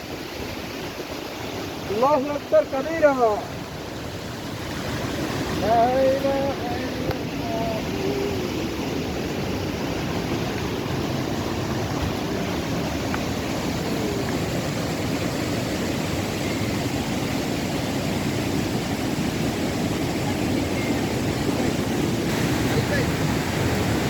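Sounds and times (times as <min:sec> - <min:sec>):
waterfall pouring: 0:00.0 - 0:24.0.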